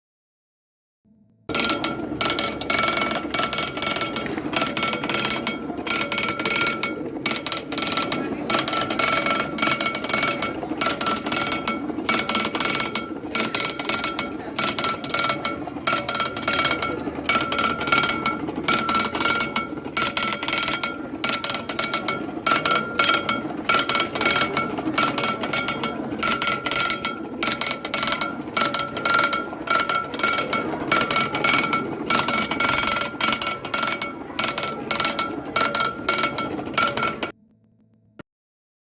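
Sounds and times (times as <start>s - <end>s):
corn sheller metallic clatter: 1.5s - 37.3s.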